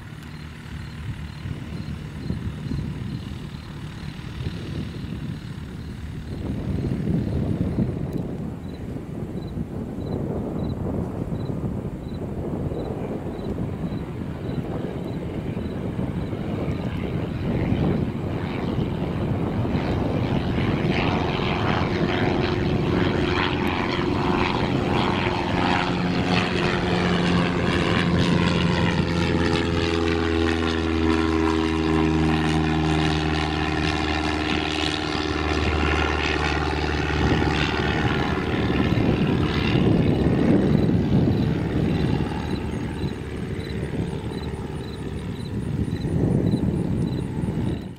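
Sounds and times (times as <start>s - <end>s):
propeller plane engine droning: 0.0s - 47.9s.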